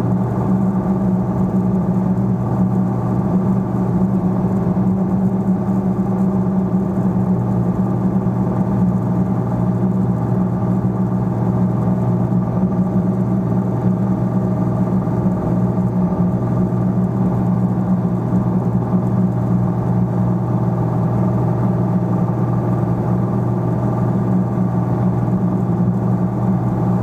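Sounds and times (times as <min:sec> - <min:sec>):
airplane engine drone in cockpit: 0:00.0 - 0:27.0.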